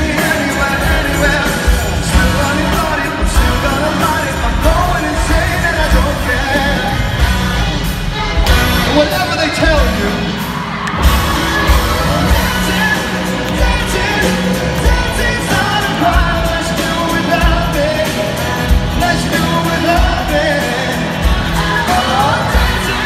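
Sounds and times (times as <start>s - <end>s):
live pop-rock band with vocals: 0.0s - 23.0s.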